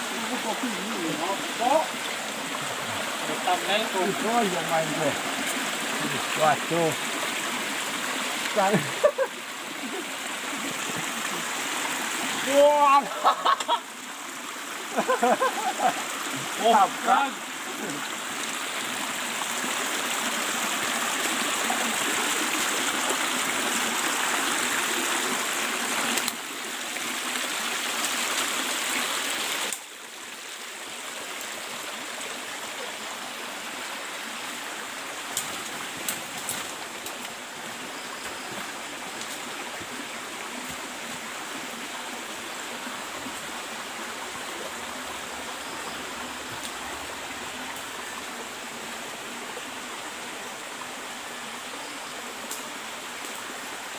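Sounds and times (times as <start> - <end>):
stream rushing over stones: 0.0 - 53.9.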